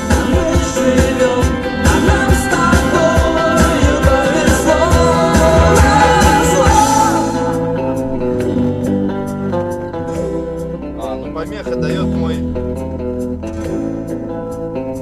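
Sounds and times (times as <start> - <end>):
pop song with singing: 0.0 - 12.6.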